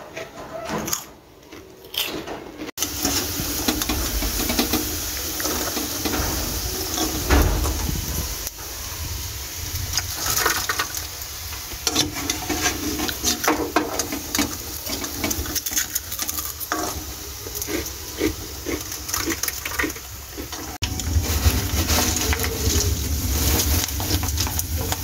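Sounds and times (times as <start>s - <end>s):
oil sizzling: 2.7s - 25.0s
fried crisps rattling on skimmer: 2.8s - 25.0s.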